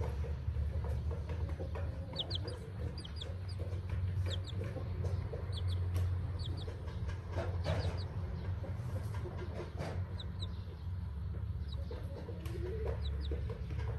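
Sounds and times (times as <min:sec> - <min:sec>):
steady low hum: 0:00.0 - 0:13.9
chick cheeping: 0:01.5 - 0:10.9, 0:11.5 - 0:13.9.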